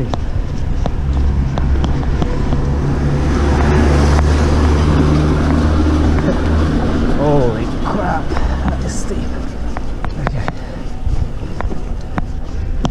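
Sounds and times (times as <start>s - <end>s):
car engine humming: 0.0s - 12.9s.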